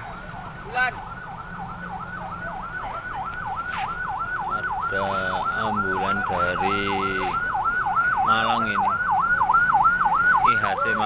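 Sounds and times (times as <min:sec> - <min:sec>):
police siren yelping: 0:00.0 - 0:11.0.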